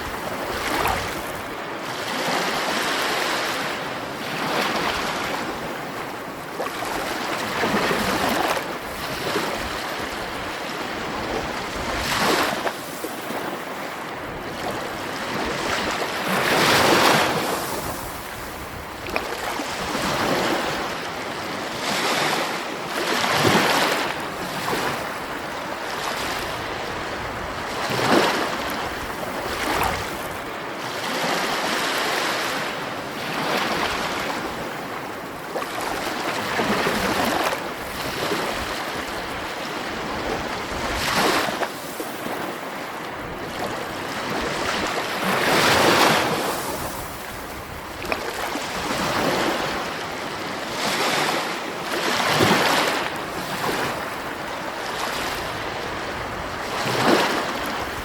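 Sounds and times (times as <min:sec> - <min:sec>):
sea waves washing: 0:00.0 - 0:58.0.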